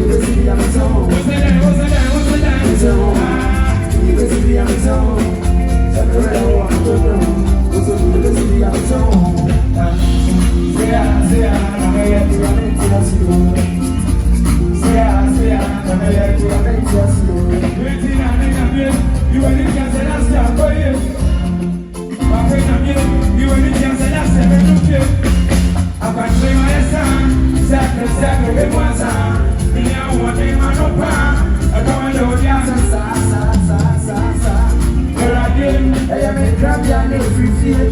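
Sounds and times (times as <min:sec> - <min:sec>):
drum hits: 0:00.0 - 0:21.6, 0:22.2 - 0:33.9
bass line: 0:00.0 - 0:37.9
live band instrumental: 0:00.0 - 0:37.9.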